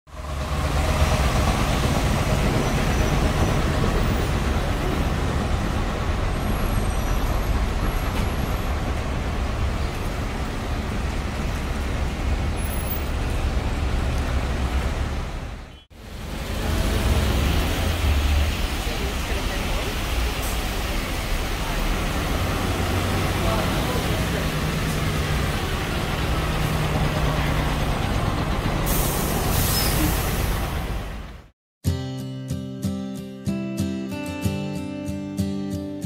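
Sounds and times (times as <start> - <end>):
bus and car engines running: 0.1 - 31.5
tyre and road noise: 0.1 - 31.5.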